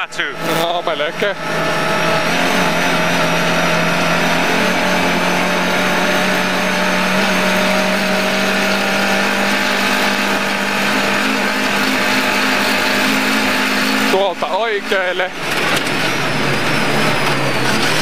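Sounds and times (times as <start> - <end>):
car engine running hard: 0.0 - 18.0
tyre and road noise on snow: 0.0 - 18.0.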